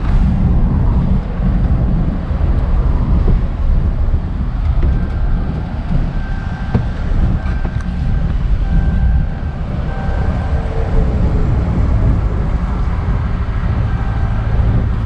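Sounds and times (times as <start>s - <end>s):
engine and road rumble in cabin: 0.0s - 15.0s.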